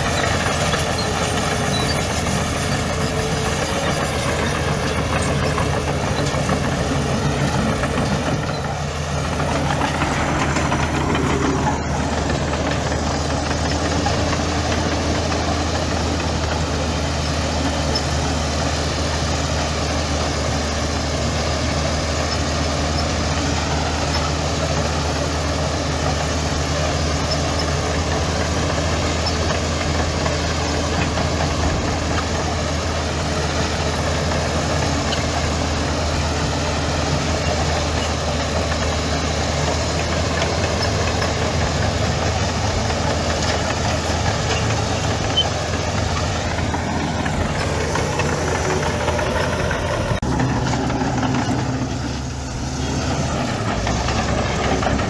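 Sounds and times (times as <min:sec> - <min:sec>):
diesel earthmoving machine running: 0:00.0 - 0:55.0.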